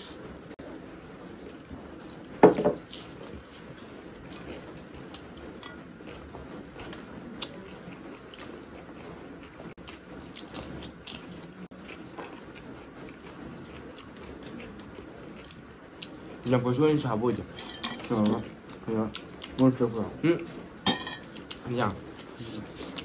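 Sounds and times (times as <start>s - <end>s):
chewing rice: 0.0s - 23.0s.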